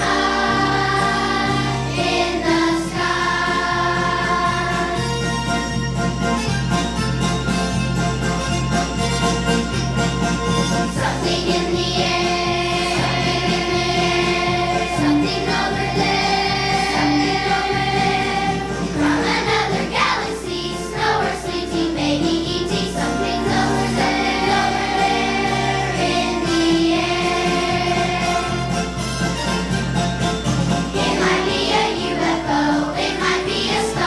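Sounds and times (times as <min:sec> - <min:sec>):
children's choir singing: 0:00.0 - 0:05.8, 0:10.7 - 0:34.0.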